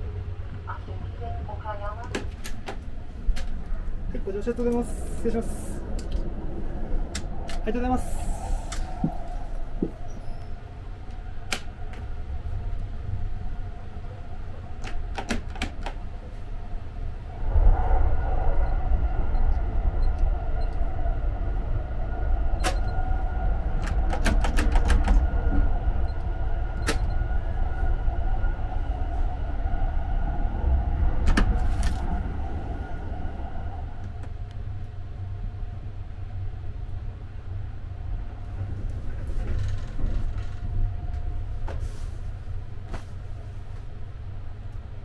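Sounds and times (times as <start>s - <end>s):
train rumble inside compartment: 0.0s - 45.0s.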